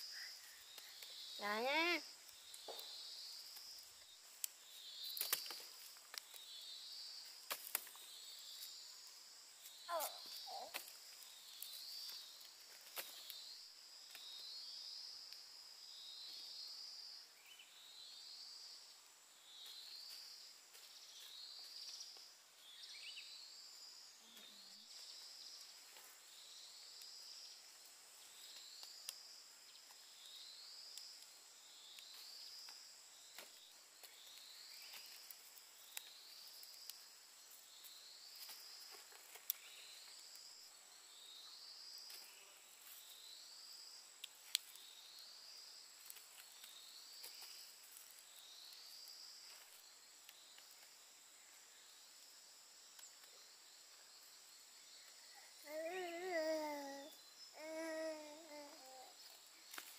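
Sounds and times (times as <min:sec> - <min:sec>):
insect trilled chirp: 0:00.0 - 0:59.9
insects high-pitched whine: 0:00.0 - 0:59.9.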